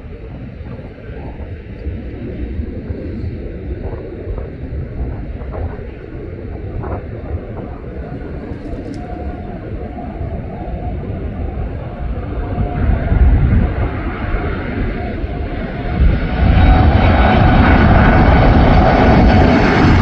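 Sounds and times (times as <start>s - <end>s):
faint steady jet whine: 0.0s - 20.0s
jet airliner rumble: 0.0s - 20.0s.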